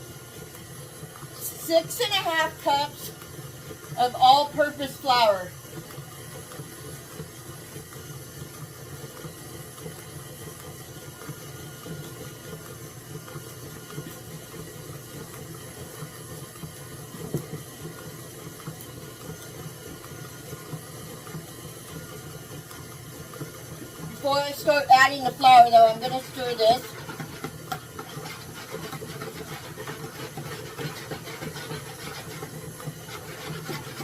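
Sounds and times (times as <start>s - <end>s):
stand mixer running: 0.0s - 34.0s.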